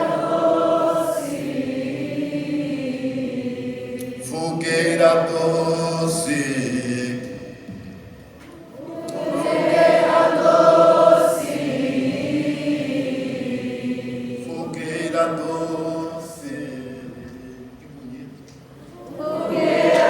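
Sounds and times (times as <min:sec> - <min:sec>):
choir singing slowly: 0:00.0 - 0:18.0, 0:18.8 - 0:20.0.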